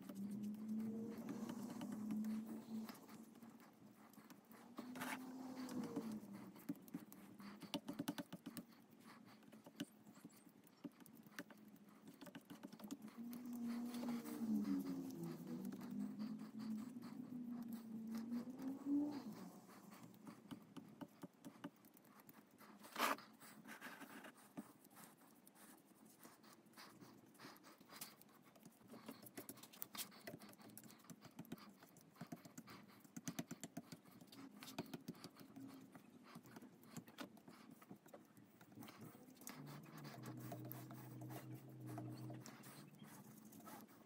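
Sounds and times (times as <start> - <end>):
scratchy brush strokes: 0.0 - 44.0.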